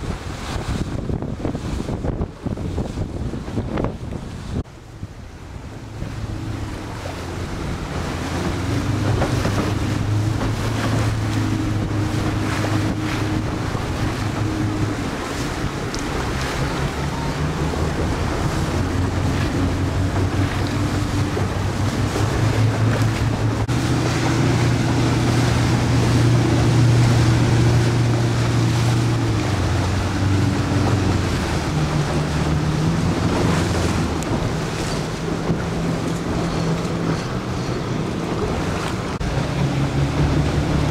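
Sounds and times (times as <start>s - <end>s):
boat motor running: 0.0s - 40.9s
water noise: 0.0s - 40.9s
wind buffeting microphone: 0.0s - 40.9s.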